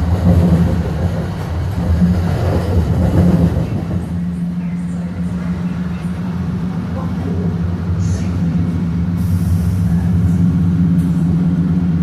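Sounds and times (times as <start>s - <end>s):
train hum and rumble: 0.0s - 12.0s.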